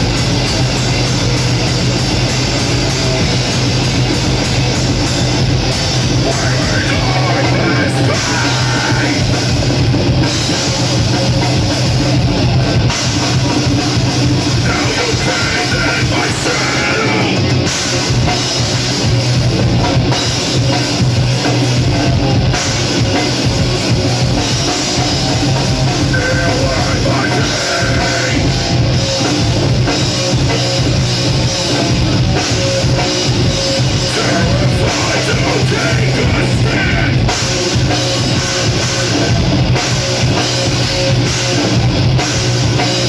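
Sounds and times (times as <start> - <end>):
distorted electric guitar: 0.0 - 43.0
pounding drum kit: 0.0 - 43.0.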